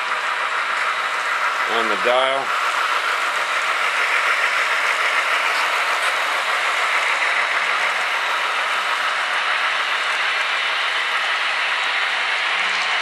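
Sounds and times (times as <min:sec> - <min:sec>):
model train wheels whirring on rail: 0:00.0 - 0:13.0.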